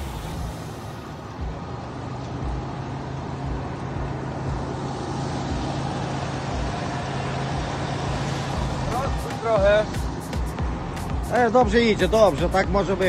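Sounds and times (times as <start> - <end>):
off-road engine under load: 0.0 - 13.0.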